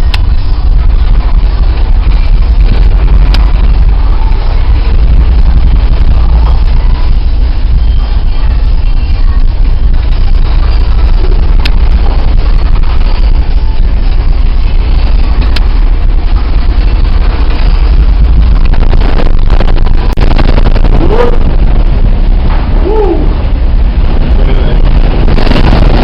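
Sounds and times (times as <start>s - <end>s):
ship rumble: 0.0s - 26.0s
wind and sea noise: 0.0s - 26.0s.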